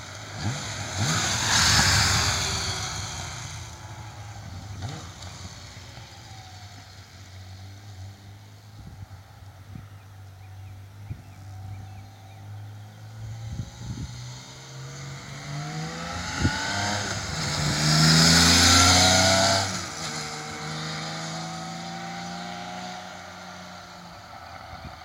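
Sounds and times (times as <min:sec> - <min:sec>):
motorcycle engine revving: 0:00.0 - 0:08.9, 0:11.5 - 0:24.8.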